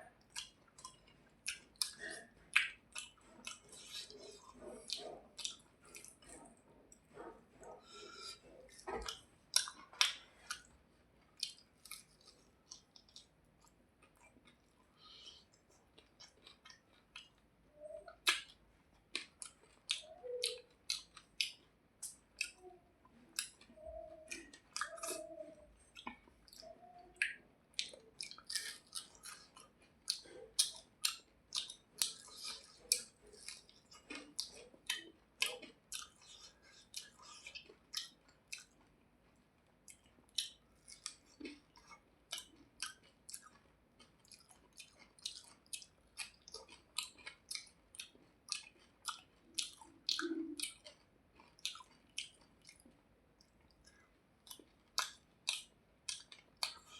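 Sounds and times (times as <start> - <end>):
chewing and mouth smacking: 0.0 - 56.9.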